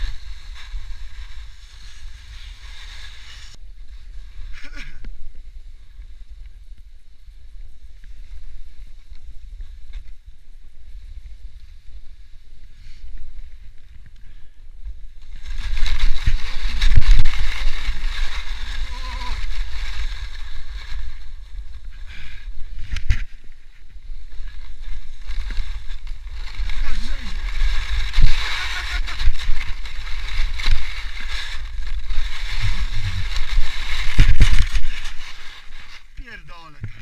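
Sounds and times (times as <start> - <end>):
snowboard scraping over snow: 0.0 - 14.1, 14.8 - 37.0
wind rumbling on microphone: 0.0 - 37.0.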